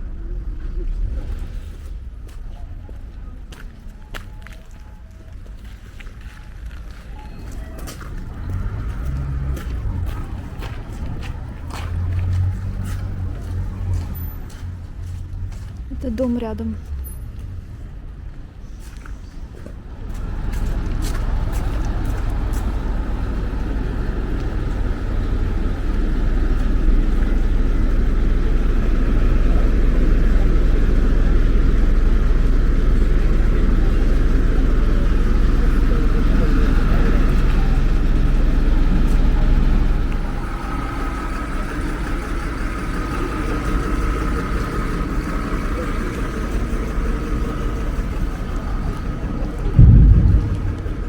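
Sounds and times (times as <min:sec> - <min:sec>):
vehicle engine low rumble: 0:00.0 - 0:51.0.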